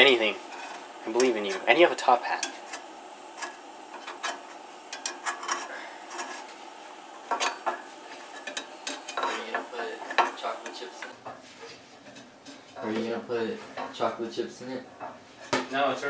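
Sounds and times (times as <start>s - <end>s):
spatulas scraping frying pan: 0.0s - 14.1s
faint pan sizzle: 0.0s - 15.5s.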